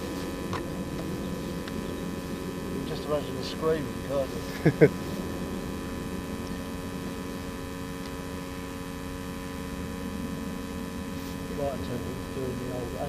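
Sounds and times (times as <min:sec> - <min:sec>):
low rumbling noise: 0:00.0 - 0:13.0
steady hum: 0:00.0 - 0:13.0.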